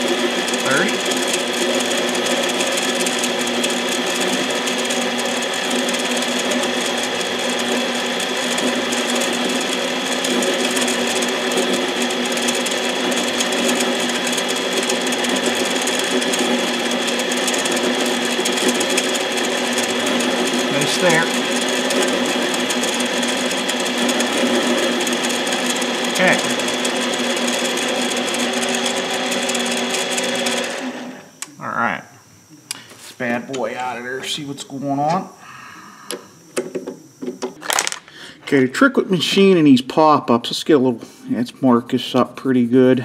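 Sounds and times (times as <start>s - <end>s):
lathe motor humming with whine: 0.0s - 37.8s.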